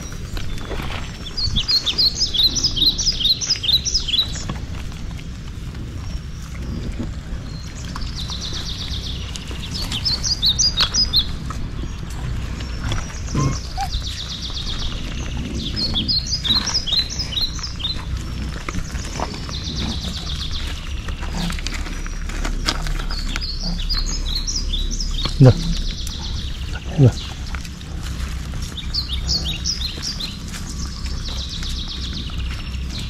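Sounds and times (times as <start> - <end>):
birds chirping and trilling: 0.0 - 33.0
steady low rumble: 0.0 - 33.0.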